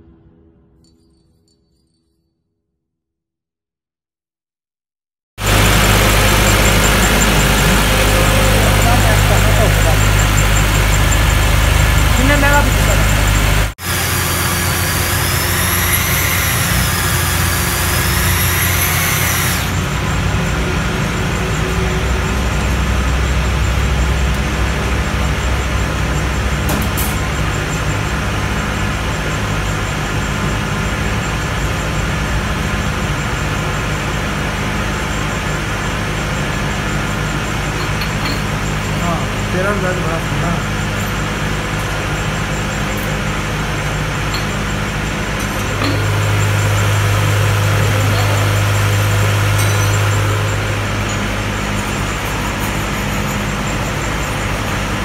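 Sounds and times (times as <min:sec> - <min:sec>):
electric drill motor drone: 0:05.4 - 0:55.0
wavering high whine: 0:05.4 - 0:55.0.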